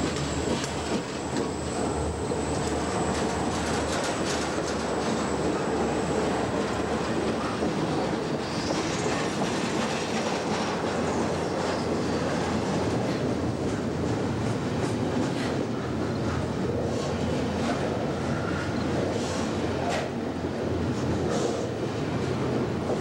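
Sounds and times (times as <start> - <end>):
freight train rumbling past: 0.0 - 23.0
steel wheels clattering on rails: 0.0 - 23.0.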